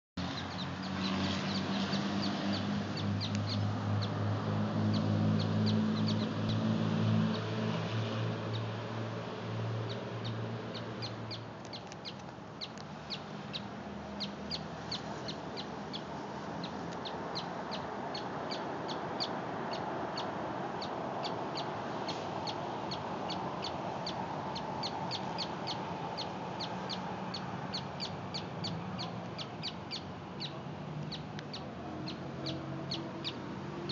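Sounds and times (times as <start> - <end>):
small songbird chirping: 0.2 - 4.2, 4.8 - 6.6, 9.8 - 33.9.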